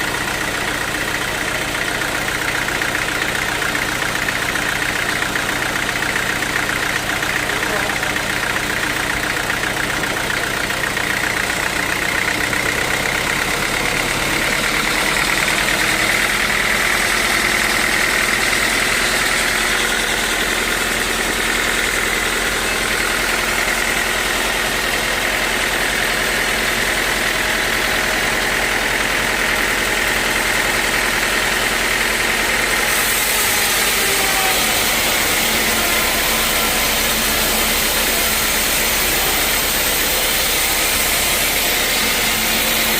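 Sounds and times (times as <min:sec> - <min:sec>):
band sawmill running: 0:00.0 - 0:42.9.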